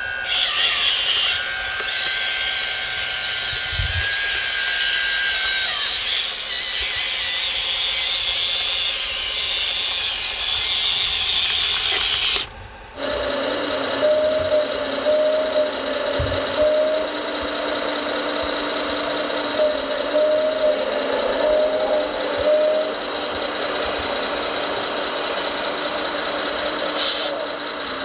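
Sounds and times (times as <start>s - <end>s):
electric motors whining: 0.0s - 28.0s
lower motor whine: 0.0s - 28.0s.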